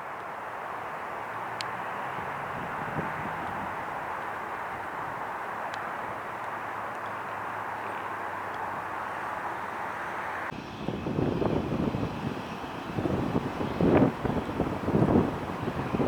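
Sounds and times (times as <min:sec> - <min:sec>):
jet engine noise: 0:00.0 - 0:16.0
wind buffeting microphone: 0:00.9 - 0:07.6, 0:08.6 - 0:16.0.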